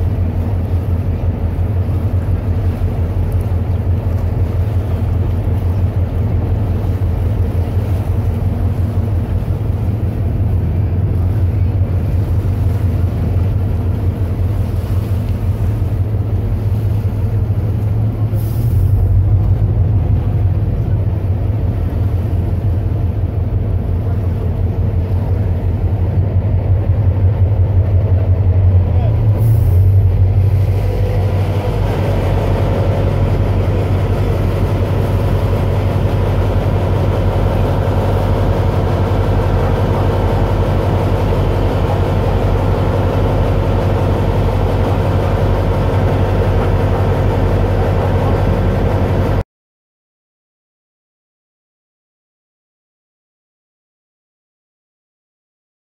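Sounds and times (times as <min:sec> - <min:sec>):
boat diesel engine rumble: 0:00.0 - 0:49.4
high engine whine: 0:00.0 - 0:49.4
water around hull: 0:00.0 - 0:49.4.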